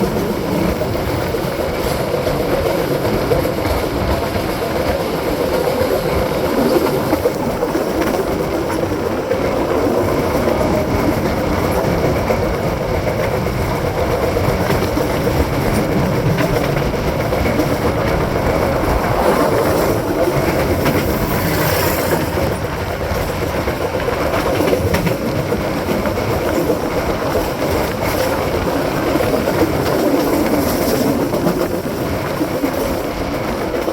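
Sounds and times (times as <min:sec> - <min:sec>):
rush of wind from fast train: 0:00.0 - 0:33.9
train wheels clattering on rails: 0:00.0 - 0:33.9.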